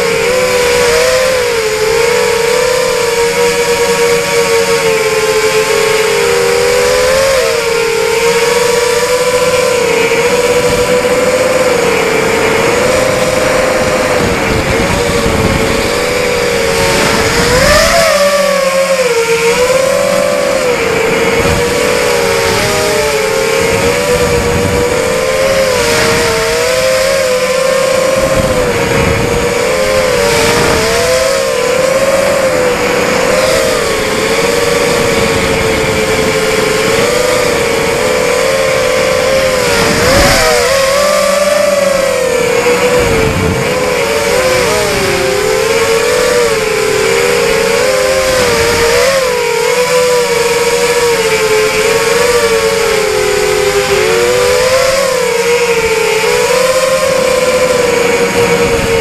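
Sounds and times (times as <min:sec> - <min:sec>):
quadcopter motors whining: 0:00.0 - 0:59.0
wind noise on microphone: 0:00.0 - 0:59.0.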